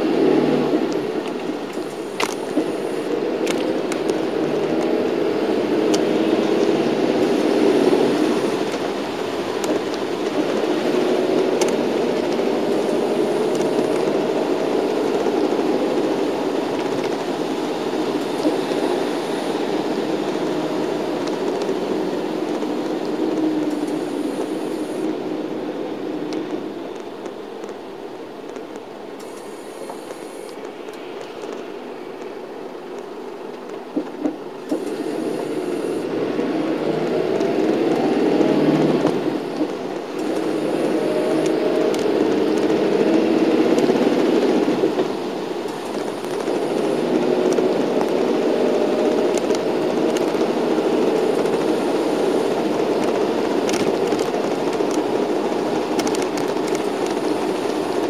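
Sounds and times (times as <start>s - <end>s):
bus engine and road noise: 0.0s - 58.0s.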